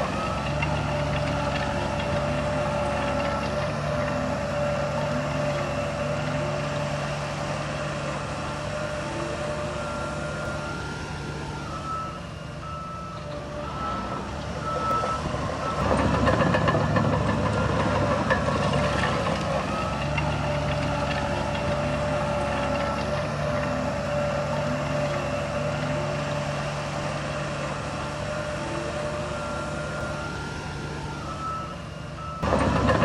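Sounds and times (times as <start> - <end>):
diesel engine running: 0.0 - 33.0
reversing alarm beeps: 0.2 - 6.8, 8.6 - 26.3, 27.0 - 33.0.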